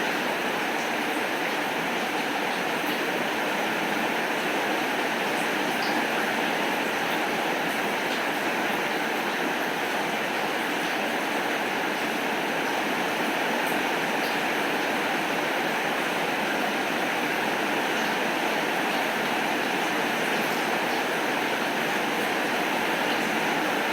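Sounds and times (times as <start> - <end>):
steady rainfall: 0.0 - 23.9.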